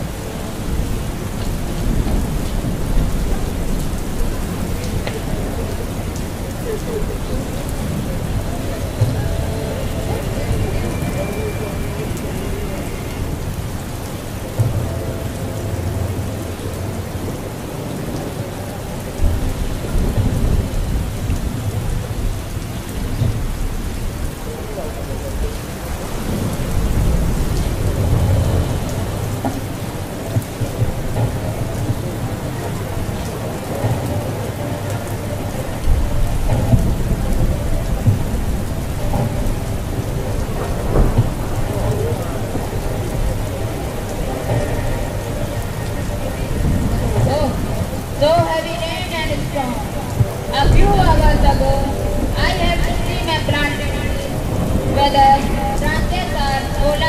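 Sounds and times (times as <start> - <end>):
steady rain: 0.0 - 57.0
thunder rumbles: 0.0 - 57.0.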